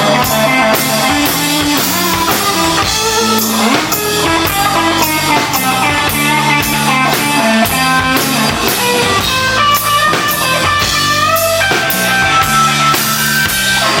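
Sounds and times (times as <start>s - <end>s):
bass guitar: 0.0s - 14.0s
drum kit beat: 0.0s - 14.0s
electric guitar notes with bends: 0.0s - 14.0s.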